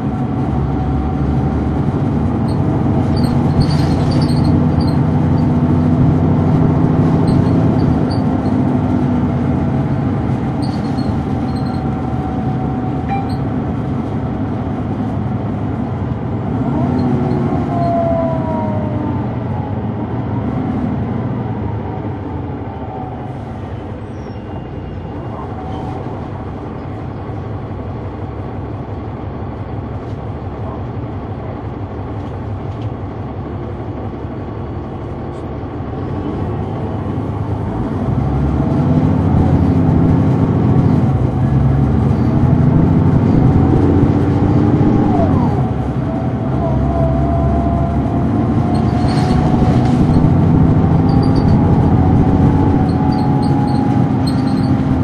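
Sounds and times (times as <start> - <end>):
bus diesel engine running: 0.0 - 55.0
drivetrain howl: 0.0 - 55.0.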